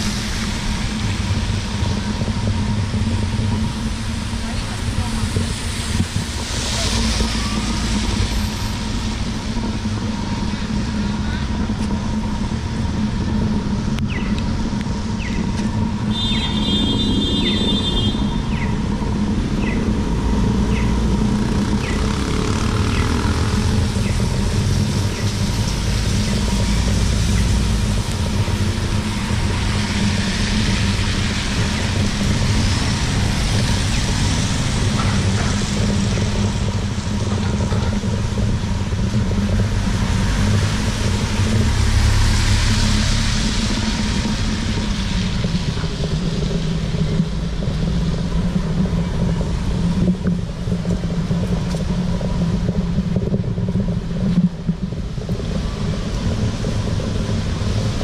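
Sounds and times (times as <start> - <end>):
low rumble of car engines: 0.0 - 58.0
tyres hissing on wet road: 0.0 - 58.0.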